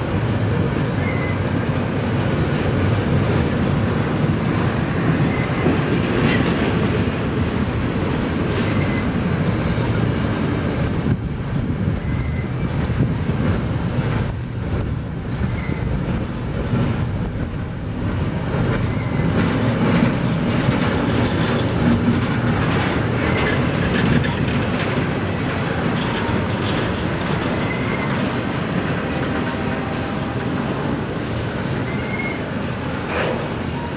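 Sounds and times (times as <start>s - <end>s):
freight train wheels rumbling: 0.0s - 33.9s.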